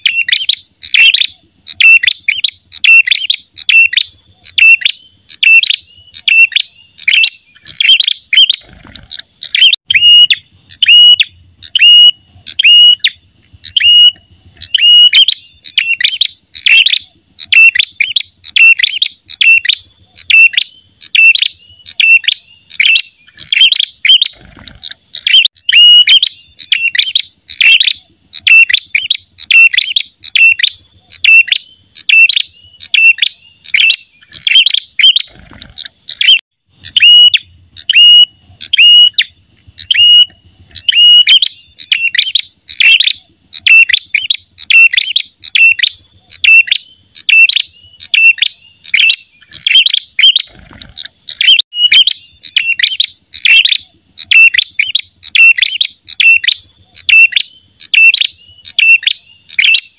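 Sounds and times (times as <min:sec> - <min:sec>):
bird song with sharp ringing notes: 0:00.0 - 0:59.9.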